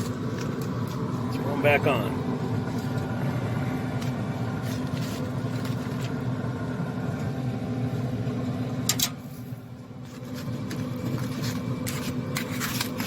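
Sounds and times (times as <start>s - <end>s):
grill fan humming: 0.0s - 13.0s.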